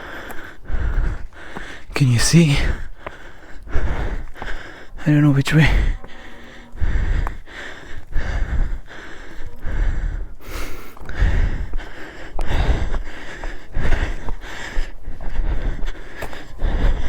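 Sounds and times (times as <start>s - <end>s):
man panting: 0.0s - 17.0s.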